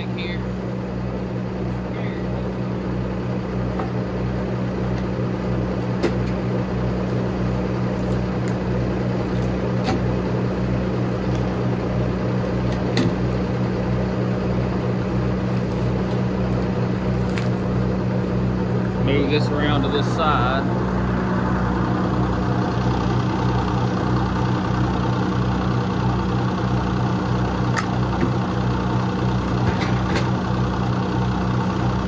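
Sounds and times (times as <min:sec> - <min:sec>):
sawmill engine idling: 0:00.0 - 0:32.0.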